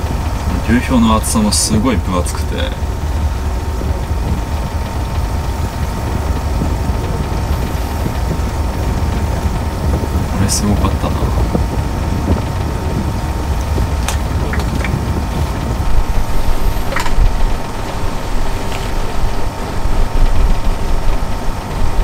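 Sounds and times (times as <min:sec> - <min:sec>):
ship engine rumble: 0:00.0 - 0:22.0.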